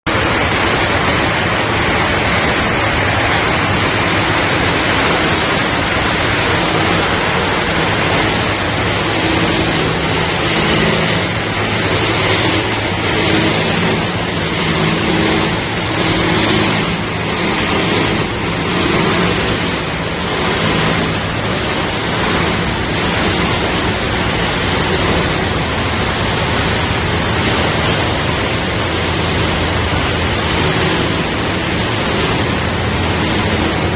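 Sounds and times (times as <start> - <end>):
low motor hum: 0.0 - 33.9
machinery washing noise: 0.0 - 33.9.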